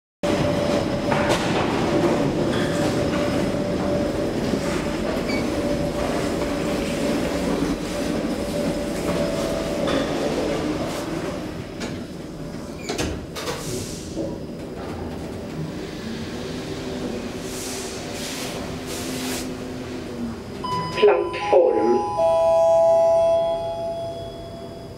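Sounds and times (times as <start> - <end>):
metro train rumble: 0.2 - 24.9.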